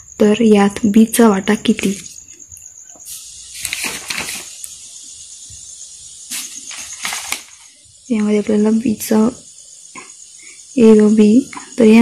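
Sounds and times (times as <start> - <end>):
faint high-pitched hiss: 0.0 - 12.0.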